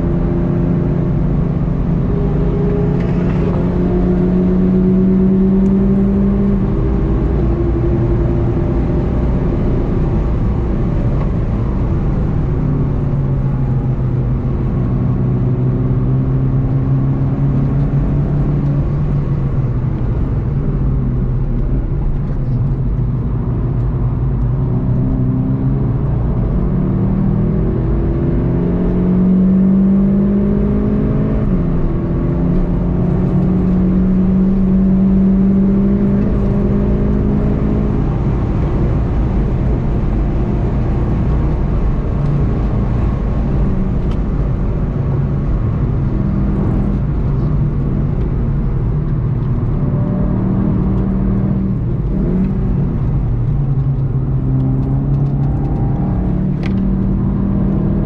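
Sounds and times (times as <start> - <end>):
car engine pulling hard: 0.0 - 58.0
road and wind noise: 0.0 - 58.0.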